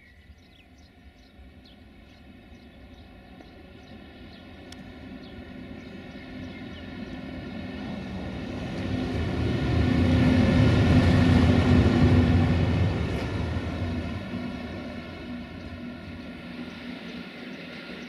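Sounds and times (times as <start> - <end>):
electric locomotive hum: 0.0 - 18.0
train wheels rumbling on rails: 0.3 - 18.0.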